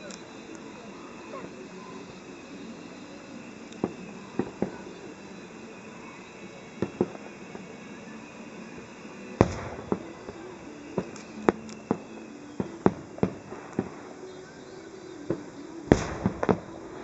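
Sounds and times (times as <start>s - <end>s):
fireworks shells bursting: 0.0s - 17.0s.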